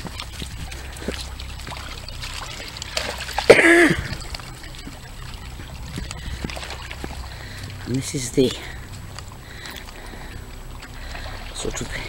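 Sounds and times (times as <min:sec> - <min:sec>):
boots squelching through mud: 0:00.0 - 0:12.0
small splashes: 0:00.0 - 0:12.0.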